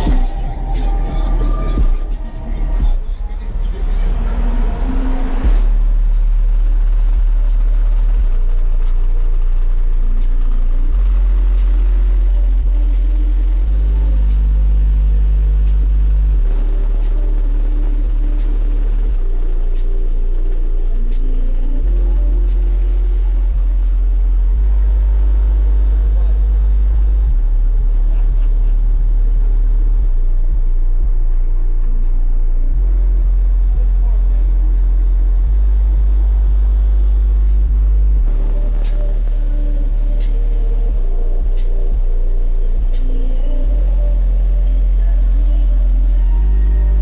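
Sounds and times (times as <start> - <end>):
subwoofers playing deep bass notes: 0.0 - 47.0.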